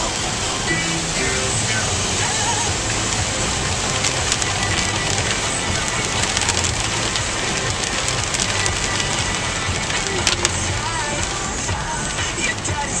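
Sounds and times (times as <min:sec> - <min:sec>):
rain on car windshield: 0:00.0 - 0:13.0
tyres and engine rumble: 0:00.0 - 0:13.0.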